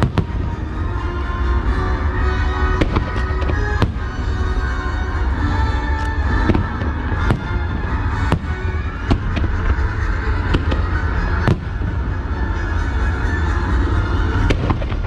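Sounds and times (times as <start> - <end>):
fireworks bangs: 0.0 - 1.7, 2.5 - 4.6, 5.7 - 13.0, 13.8 - 15.0
music playing: 0.0 - 15.0.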